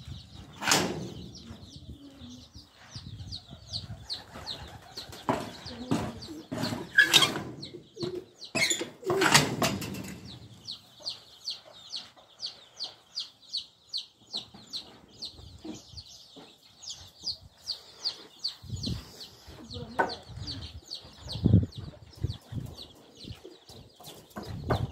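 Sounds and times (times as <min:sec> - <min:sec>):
chicks peeping: 0:00.0 - 0:24.9.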